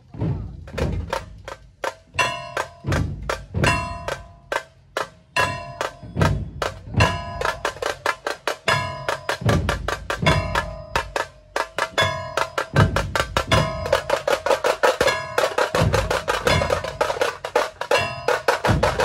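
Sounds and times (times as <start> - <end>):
deep drum beats: 0.0 - 19.0
sharp stick strokes on drums: 0.1 - 19.0.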